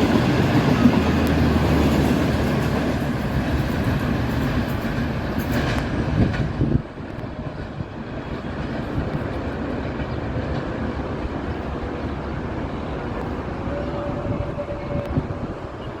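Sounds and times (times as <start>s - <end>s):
diesel locomotive rumble: 0.0s - 16.0s
train rolling noise: 0.0s - 16.0s.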